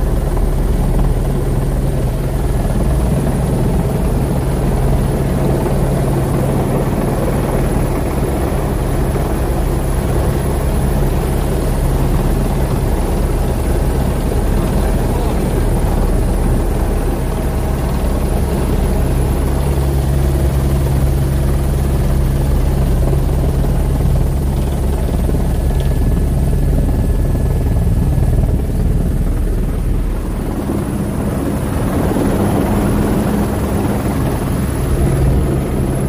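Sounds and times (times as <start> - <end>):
helicopter rotor beating: 0.0 - 36.0.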